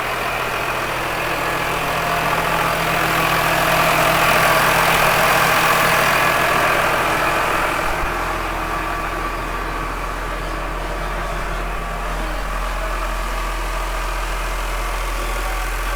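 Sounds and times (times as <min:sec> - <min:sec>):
tractor diesel engine idling: 0:00.0 - 0:15.9.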